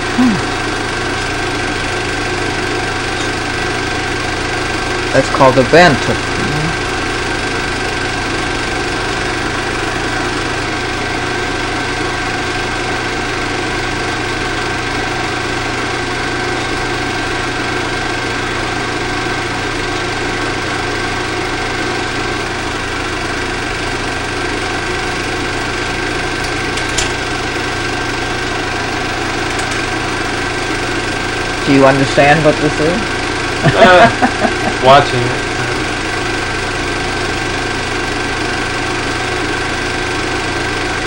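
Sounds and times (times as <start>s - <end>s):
film projector whirring: 0.0s - 41.0s.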